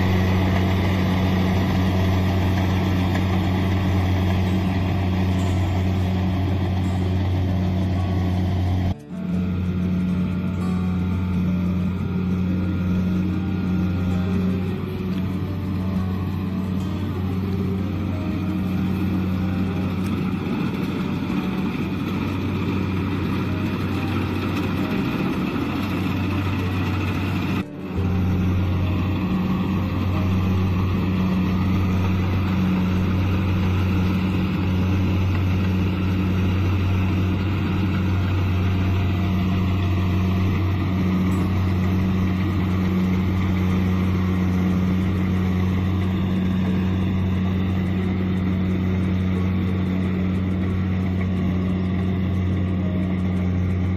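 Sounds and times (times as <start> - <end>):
combine harvester engine droning: 0.0 - 53.9.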